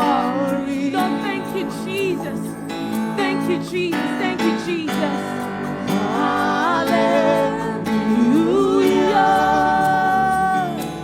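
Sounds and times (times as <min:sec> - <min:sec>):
gospel singers: 0:00.0 - 0:11.0
instrumental backing: 0:00.0 - 0:11.0.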